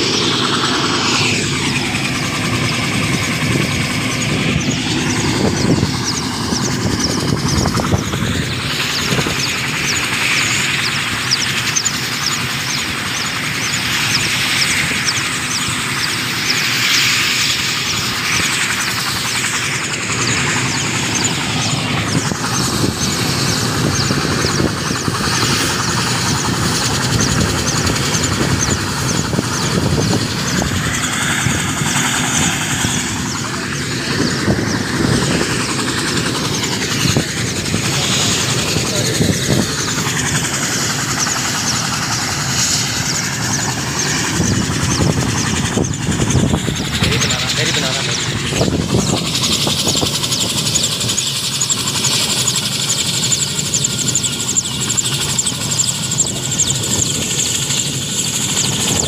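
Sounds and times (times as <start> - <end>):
helicopter rotor whirring: 0.0 - 59.0.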